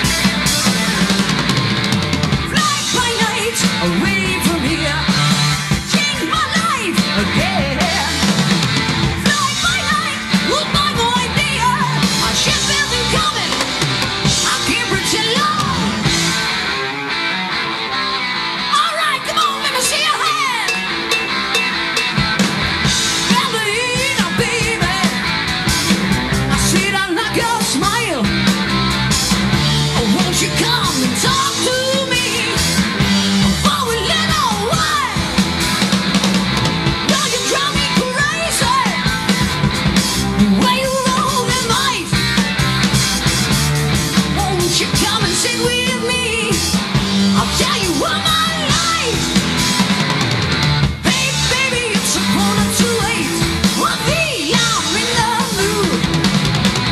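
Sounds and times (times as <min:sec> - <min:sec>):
electric guitar lead: 0:00.0 - 0:56.9
hard rock band playing: 0:00.0 - 0:56.9.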